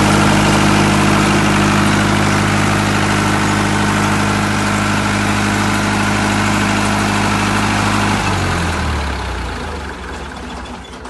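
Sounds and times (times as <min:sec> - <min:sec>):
diesel generator running: 0:00.0 - 0:11.0.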